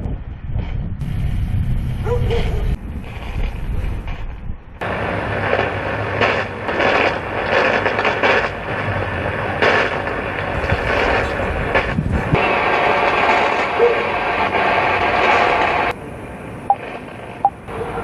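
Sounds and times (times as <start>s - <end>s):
thunder rumbling: 0.0s - 17.8s.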